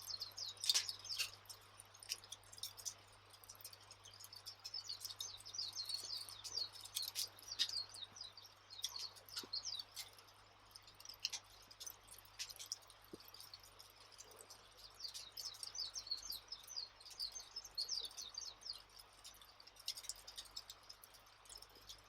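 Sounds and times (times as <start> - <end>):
small birds chirping: 0.0 - 22.0
wood fire crackling and popping: 0.0 - 22.0.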